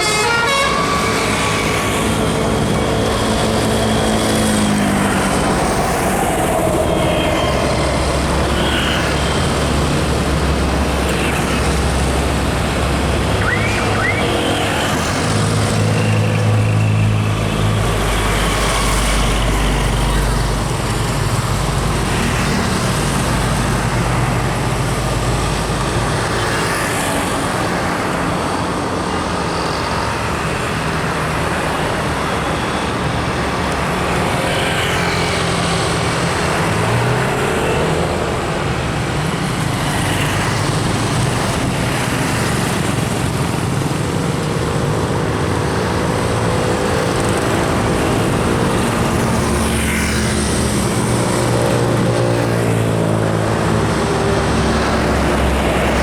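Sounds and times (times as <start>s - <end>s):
tyre and road noise: 0.0s - 56.0s
vehicles passing: 0.0s - 56.0s
large vehicle engines running: 0.8s - 56.0s.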